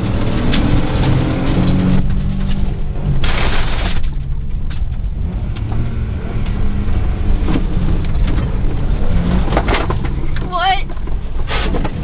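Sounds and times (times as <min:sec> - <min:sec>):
car engine running: 0:00.0 - 0:12.0
knocks and rattles over bumps: 0:00.0 - 0:12.0
road noise: 0:00.0 - 0:12.0.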